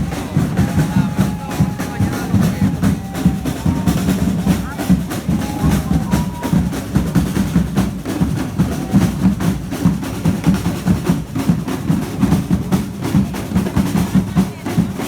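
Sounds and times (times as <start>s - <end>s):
drum band playing: 0.0s - 15.0s.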